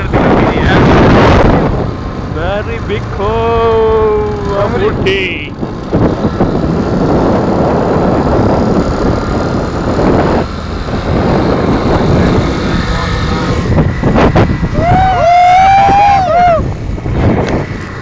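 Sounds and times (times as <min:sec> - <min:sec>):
vehicle engine and road rumble: 0:00.0 - 0:18.0
wind on microphone: 0:00.0 - 0:18.0.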